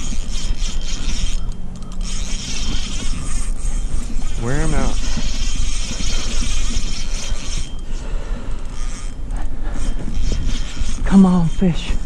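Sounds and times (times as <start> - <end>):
steady rumbling rustling noise: 0.0 - 12.0.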